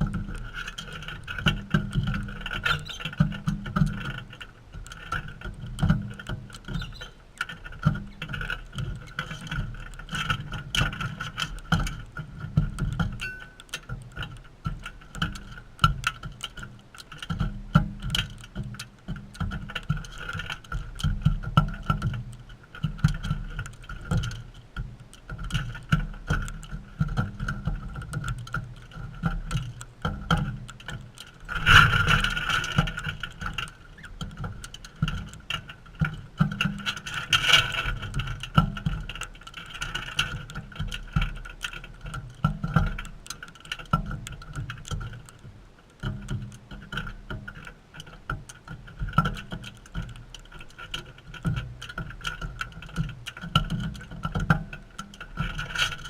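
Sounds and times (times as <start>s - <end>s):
quick irregular clicks and taps: 0.0s - 56.0s.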